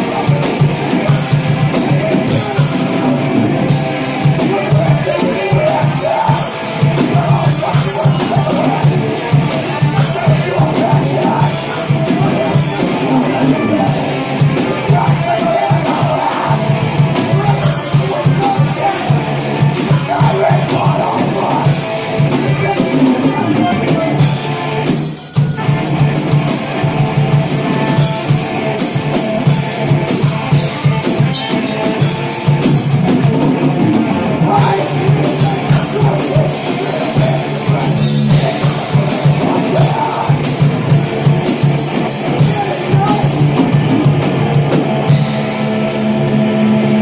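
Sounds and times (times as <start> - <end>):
live rock band playing: 0.0 - 47.0.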